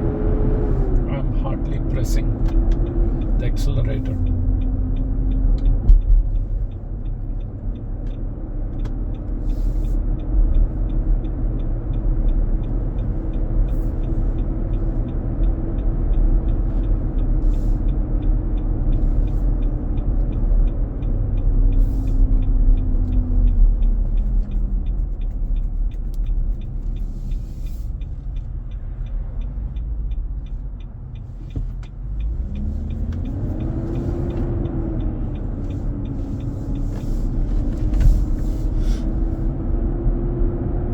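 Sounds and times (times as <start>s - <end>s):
road rumble: 0.0s - 40.9s.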